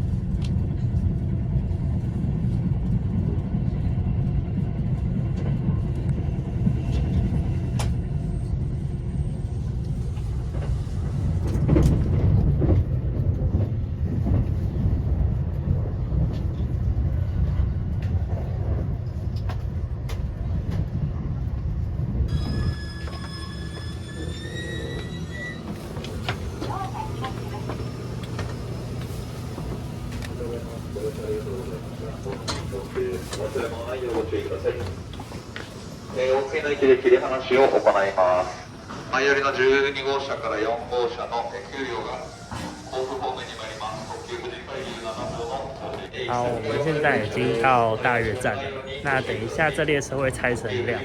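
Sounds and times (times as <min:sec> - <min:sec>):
train rumbling on rails: 0:00.0 - 0:51.0.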